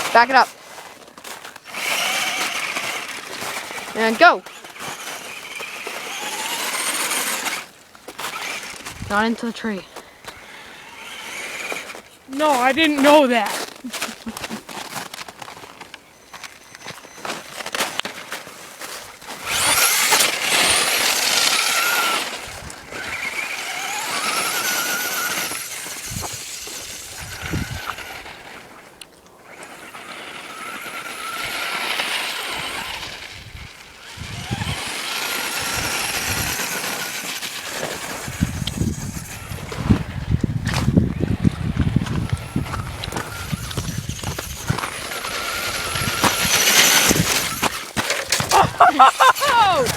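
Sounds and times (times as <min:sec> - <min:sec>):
toy truck electric motor whining: 0:00.0 - 0:28.8, 0:29.4 - 0:49.9.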